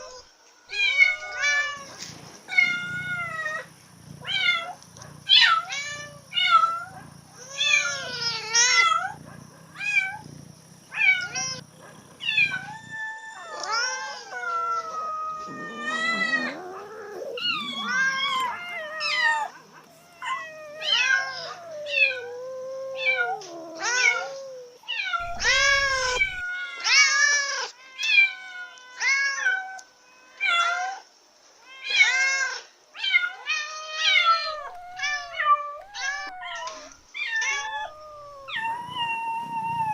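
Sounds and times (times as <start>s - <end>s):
cats meowing and yowling: 0.0s - 31.0s, 31.6s - 39.9s.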